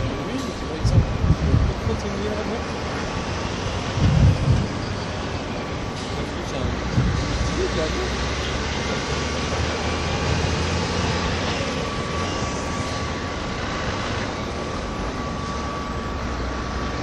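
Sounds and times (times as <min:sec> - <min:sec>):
machinery low rumble and hiss: 0:00.0 - 0:17.0
steady high whine: 0:00.0 - 0:17.0.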